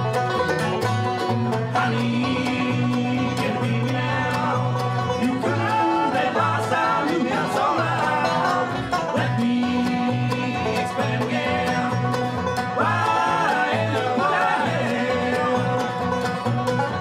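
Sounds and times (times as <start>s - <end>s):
acoustic guitar: 0.0s - 17.0s
banjo picking: 0.0s - 17.0s
mandolin picking: 0.0s - 17.0s
plucked upright bass: 0.0s - 17.0s.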